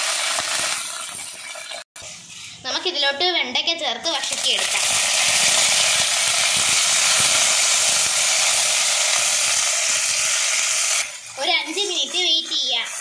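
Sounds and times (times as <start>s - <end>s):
okra sizzling in hot oil: 0.0s - 2.7s, 4.2s - 13.0s.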